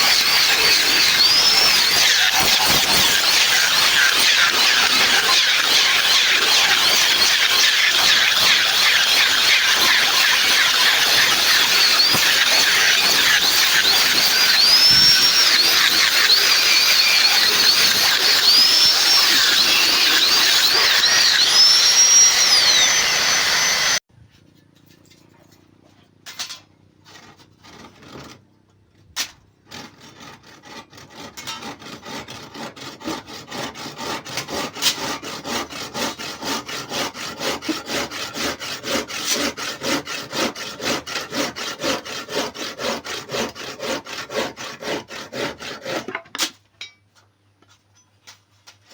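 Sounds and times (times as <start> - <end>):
hand saw cutting a log: 0.0 - 24.0, 27.0 - 28.4, 29.2 - 46.6.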